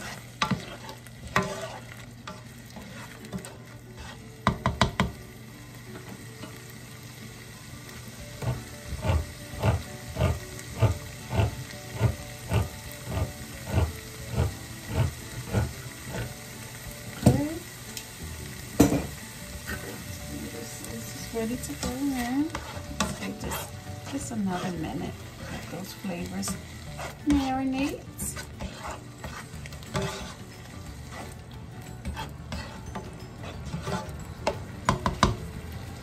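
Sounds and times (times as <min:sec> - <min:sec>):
utensil stirring and scraping pan: 0:00.0 - 0:05.2, 0:08.3 - 0:16.4, 0:18.6 - 0:35.4
food sizzling in oil: 0:00.0 - 0:36.0.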